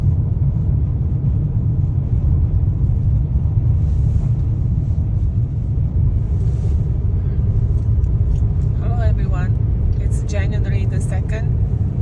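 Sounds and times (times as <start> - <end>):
car driving on highway: 0.0 - 12.0.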